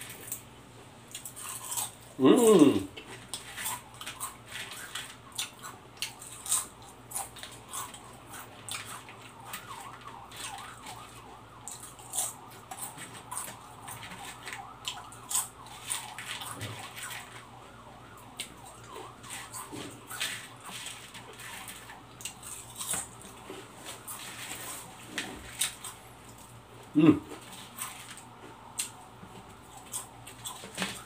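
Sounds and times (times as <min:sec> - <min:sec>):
potato chips crunching: 0:01.1 - 0:17.6, 0:18.2 - 0:31.0
chips rustling in a plastic tray: 0:01.2 - 0:17.6, 0:18.5 - 0:26.6, 0:27.4 - 0:31.0.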